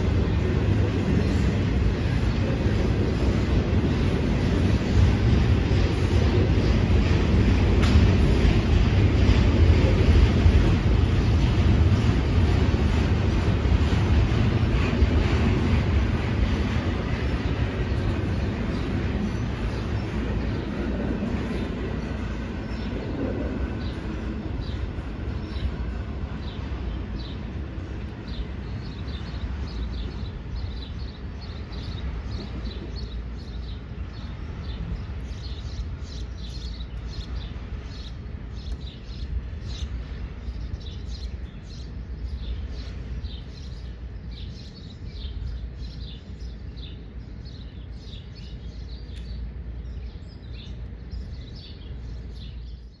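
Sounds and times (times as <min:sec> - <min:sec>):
freight train rumble: 0:00.0 - 0:53.0
small birds chirping: 0:00.0 - 0:53.0.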